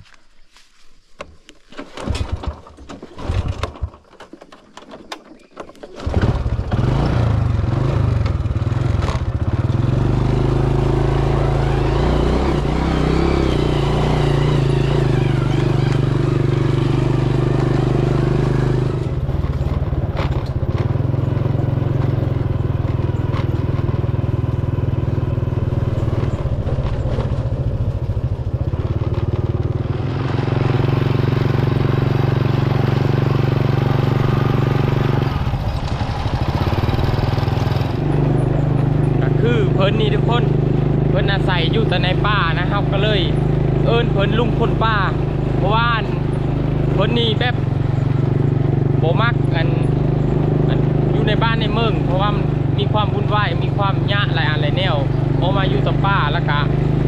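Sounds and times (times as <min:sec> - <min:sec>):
vehicle engine droning: 0:06.0 - 0:57.0.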